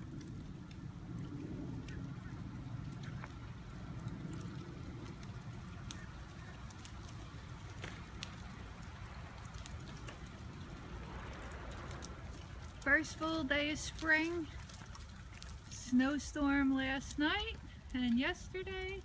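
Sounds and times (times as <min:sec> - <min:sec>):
snow and water dripping from trees: 0:00.0 - 0:19.0
steady low rumble: 0:00.0 - 0:19.0.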